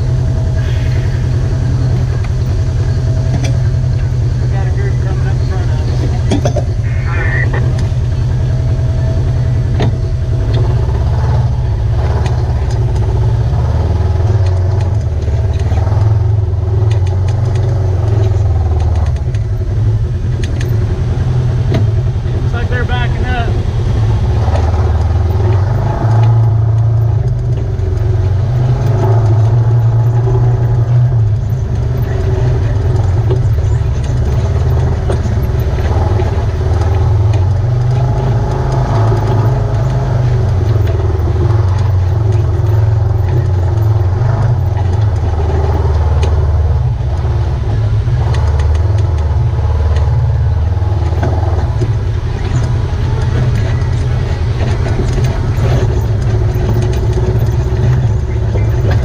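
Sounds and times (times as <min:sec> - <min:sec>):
utility vehicle engine rumble: 0:00.0 - 0:59.0.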